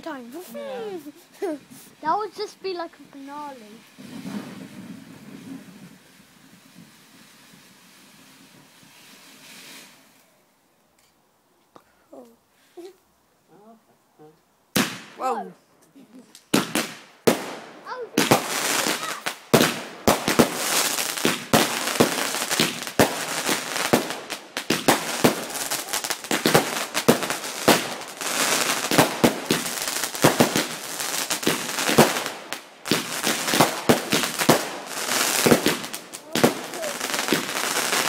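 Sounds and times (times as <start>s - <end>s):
fireworks crackling and banging: 0.0s - 11.3s, 14.7s - 38.0s.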